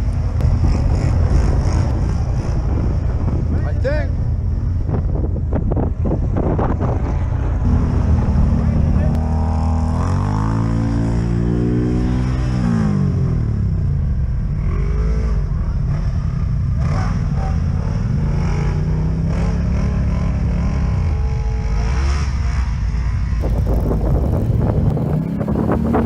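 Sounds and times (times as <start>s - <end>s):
off-road vehicle engine revving: 0.0s - 4.1s, 5.8s - 26.0s.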